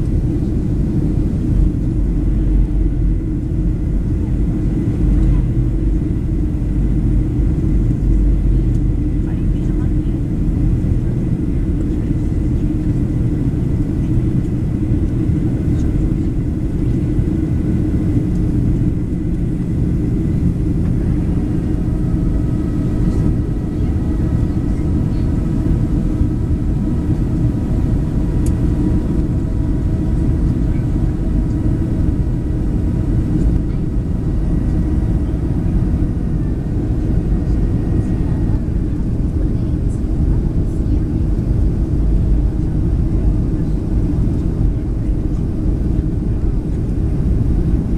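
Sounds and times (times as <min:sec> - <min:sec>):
airplane cabin rumble: 0:00.0 - 0:47.9
jet engine whine: 0:00.0 - 0:47.9.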